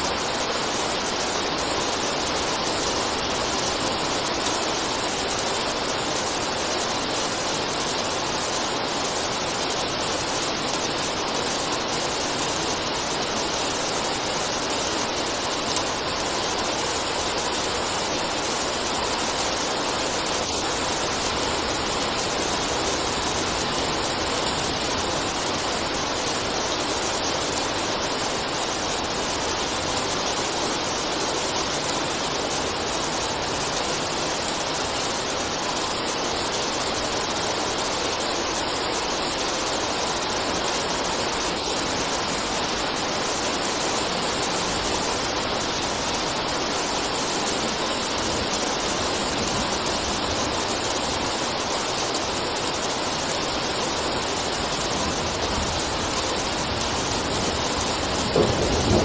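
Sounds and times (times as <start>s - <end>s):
steady dense rain: 0.0s - 59.0s.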